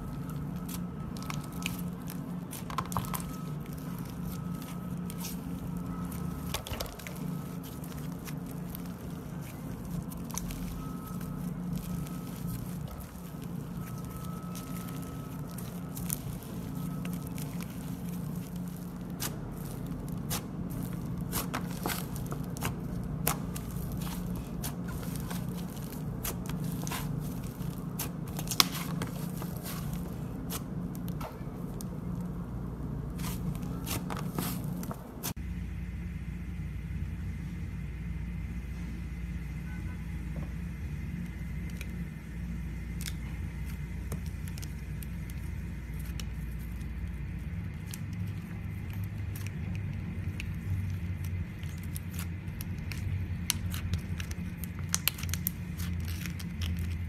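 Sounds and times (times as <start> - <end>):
slime squished with sticky crackles: 0.0 - 32.4, 33.0 - 35.4, 41.1 - 57.0
steady low hum: 0.0 - 57.0.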